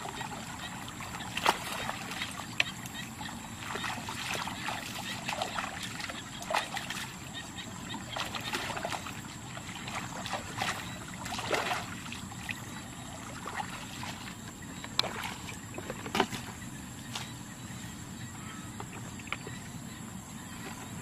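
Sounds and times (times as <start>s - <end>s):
muddy water splashing: 0.0s - 17.4s.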